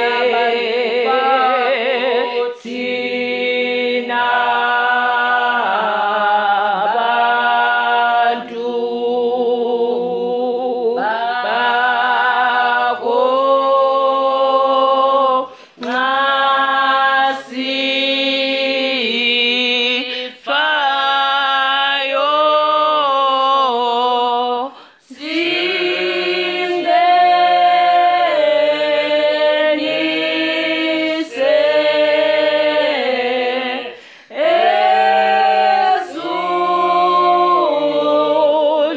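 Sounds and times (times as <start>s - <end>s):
group singing a hymn unaccompanied: 0.0s - 38.9s.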